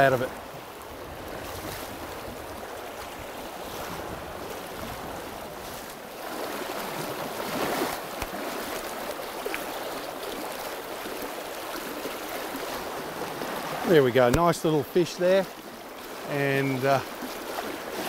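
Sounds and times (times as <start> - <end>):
river water flowing over rocks: 0.0 - 18.0.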